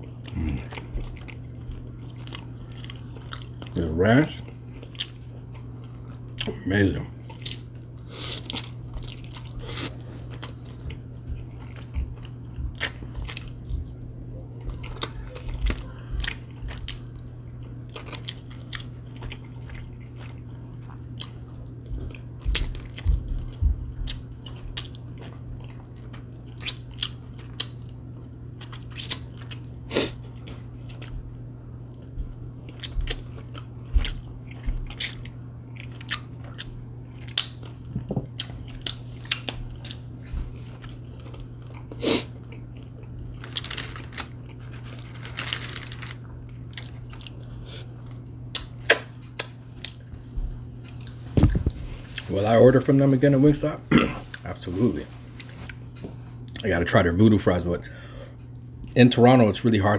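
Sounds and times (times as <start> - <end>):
person chewing and crunching: 0.0 - 56.7
low hum: 0.0 - 59.7.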